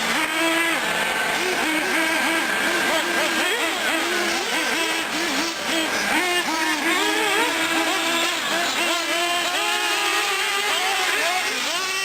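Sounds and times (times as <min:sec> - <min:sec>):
model car engines revving: 0:00.0 - 0:12.0.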